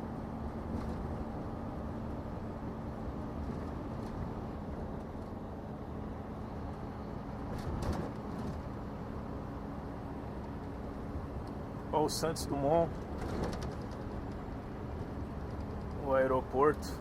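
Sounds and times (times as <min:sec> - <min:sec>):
road and wind noise: 0:00.0 - 0:17.0
truck engine cruising: 0:00.0 - 0:17.0.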